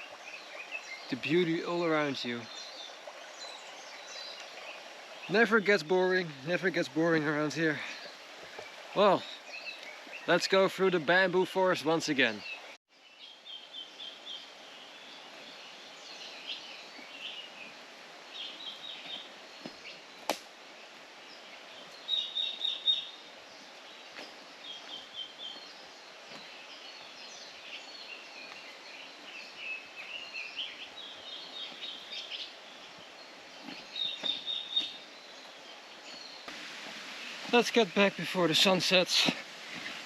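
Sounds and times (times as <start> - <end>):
songbirds chirping: 0.0 - 40.0
steady background hiss: 0.0 - 40.0.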